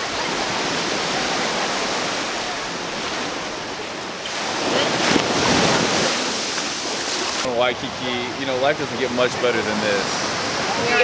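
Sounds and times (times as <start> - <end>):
waves washing up on shore: 0.0 - 11.0.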